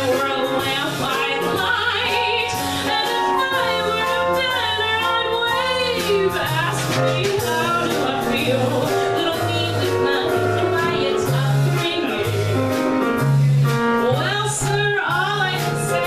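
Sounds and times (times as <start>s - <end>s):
bass: 0.0s - 16.0s
drums with cymbals: 0.0s - 16.0s
piano: 0.0s - 16.0s
woman singing: 0.0s - 16.0s.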